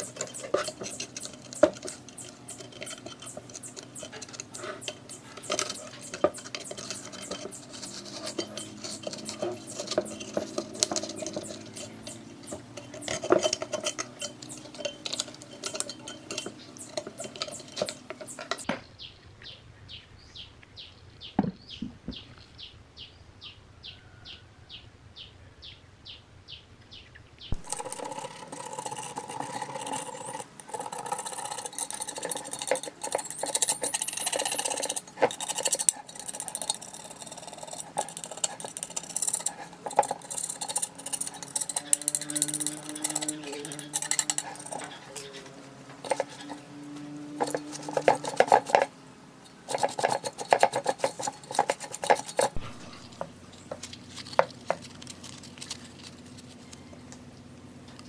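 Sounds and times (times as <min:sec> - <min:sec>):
hand tools clinking and clicking: 0:00.0 - 0:18.7, 0:27.5 - 0:56.8.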